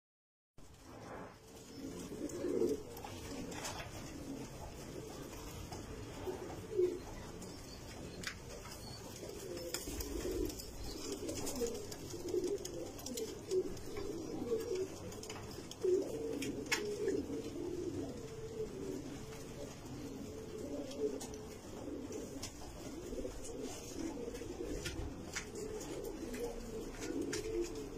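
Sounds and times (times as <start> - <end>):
pigeons cooing: 1.4 - 27.9.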